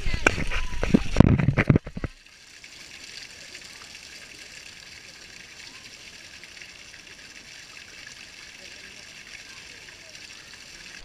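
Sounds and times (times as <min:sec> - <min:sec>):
shower water pouring and splashing: 0:00.0 - 0:11.0.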